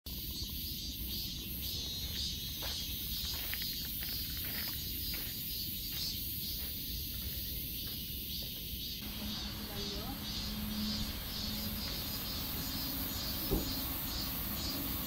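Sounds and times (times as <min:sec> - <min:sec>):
insects chirping: 0:00.1 - 0:15.0.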